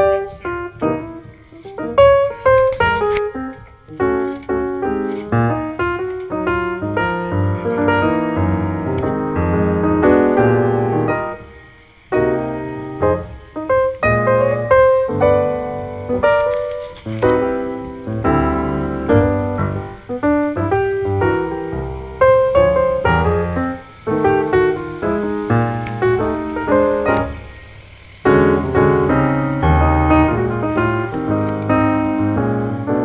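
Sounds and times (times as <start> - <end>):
solo piano: 0.0 - 33.0.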